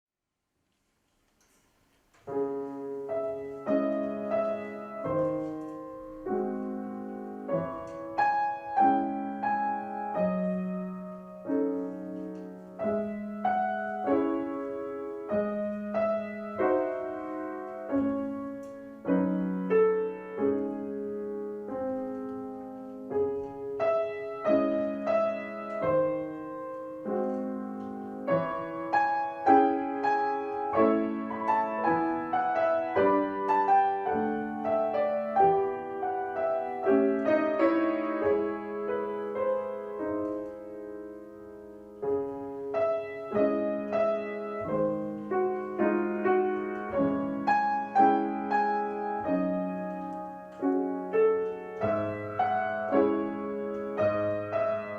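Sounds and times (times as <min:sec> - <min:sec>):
solo piano piece: 0:00.8 - 0:54.9.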